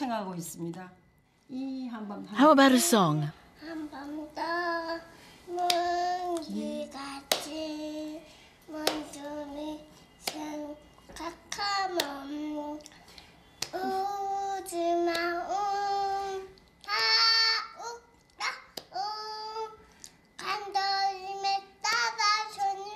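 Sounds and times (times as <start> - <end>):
girl singing: 3.6 - 13.0, 13.6 - 22.9.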